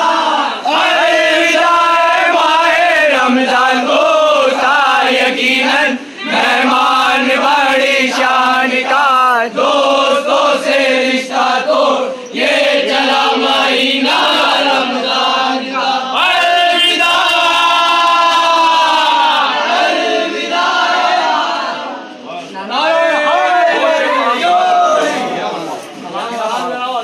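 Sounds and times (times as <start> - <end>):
crowd of men chanting: 0.0 - 25.5.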